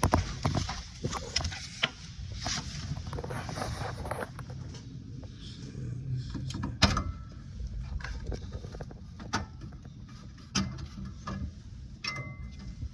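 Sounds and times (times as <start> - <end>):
wires clicking and knocking: 0.0 - 5.4, 6.4 - 12.8
steady low hum: 0.0 - 12.9.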